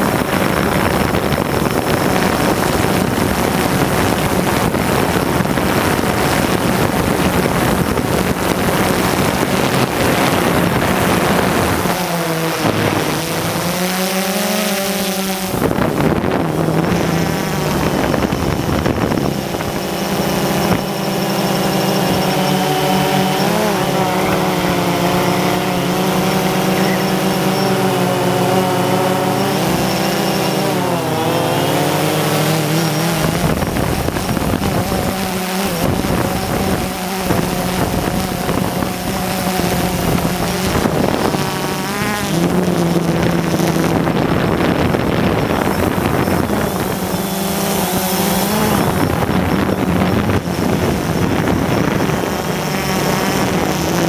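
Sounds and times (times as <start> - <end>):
drone propellers humming: 0.0 - 54.0
rushing noise: 0.0 - 54.0.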